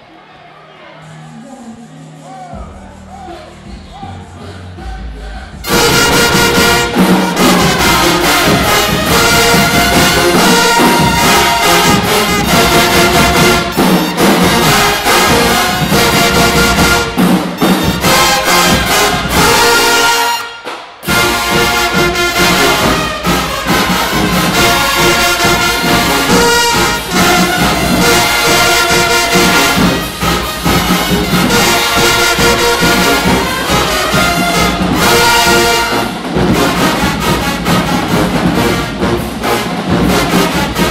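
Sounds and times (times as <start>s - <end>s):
drums: 2.5s - 40.9s
marching band brass: 5.6s - 40.9s.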